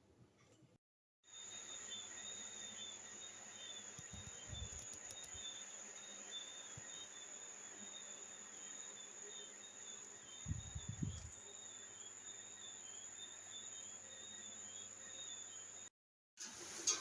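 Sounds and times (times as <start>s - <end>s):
insect chirping: 1.3s - 15.9s.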